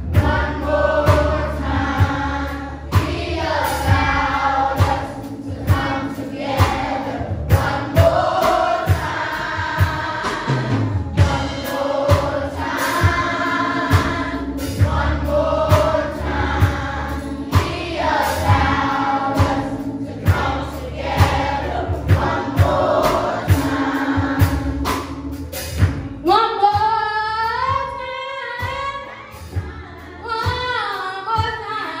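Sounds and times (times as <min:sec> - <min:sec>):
choir singing gospel song: 0:00.0 - 0:26.0, 0:27.7 - 0:31.6
accompaniment with steady beat: 0:00.0 - 0:27.0.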